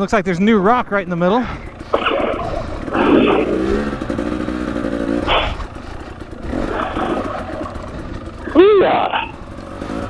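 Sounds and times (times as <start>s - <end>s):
dirt bike engine chugging: 0.0s - 10.0s.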